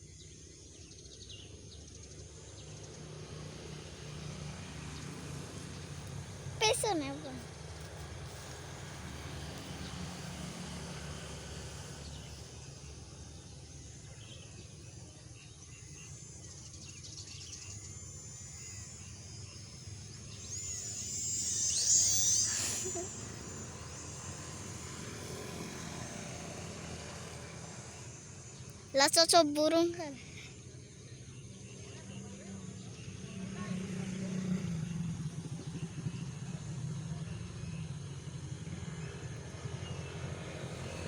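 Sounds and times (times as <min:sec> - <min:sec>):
electric motors and propellers whining: 0:00.0 - 0:41.0.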